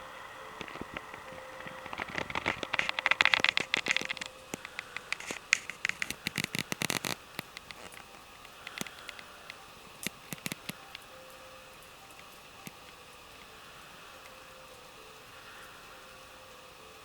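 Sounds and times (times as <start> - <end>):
wood fire crackling and popping: 0.2 - 14.8.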